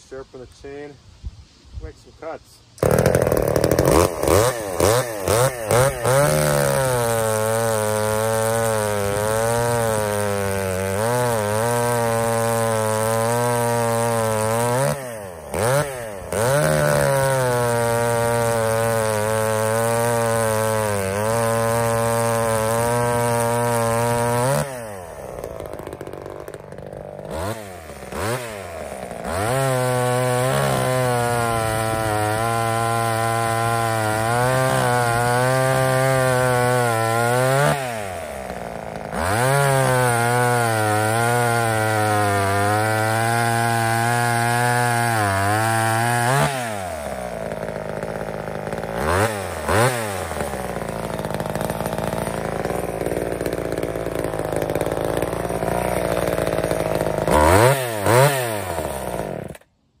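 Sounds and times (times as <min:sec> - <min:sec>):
chainsaw cutting log: 0:02.2 - 1:00.0
chainsaw idling: 0:02.8 - 0:59.8.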